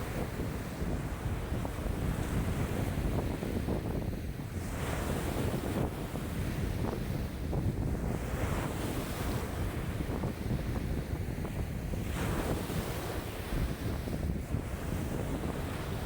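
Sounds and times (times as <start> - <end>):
waves splashing on shore: 0.0 - 16.0
wind buffeting microphone: 0.0 - 16.0.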